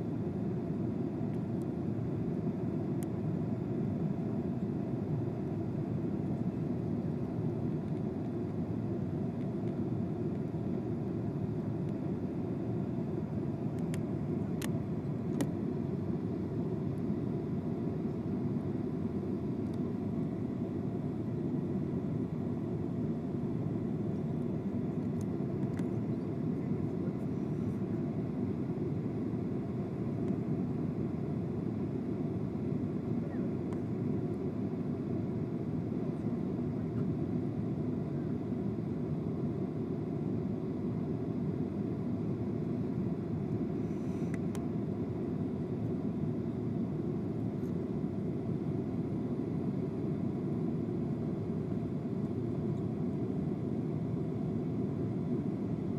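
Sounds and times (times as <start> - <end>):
jet cabin engine rumble: 0.0 - 55.9.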